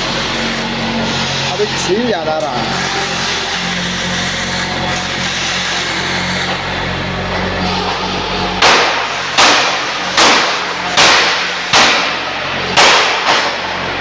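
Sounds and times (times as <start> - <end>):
welding machine humming: 0.0 - 14.0.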